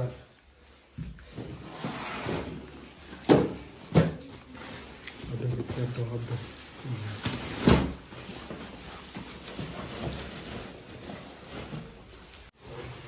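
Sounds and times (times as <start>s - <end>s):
plastic sack rustling: 0.0s - 13.0s.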